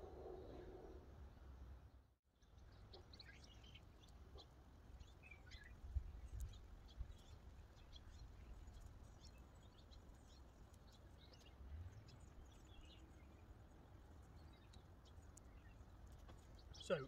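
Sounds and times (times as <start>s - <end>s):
faint bird chirps: 2.4s - 17.0s.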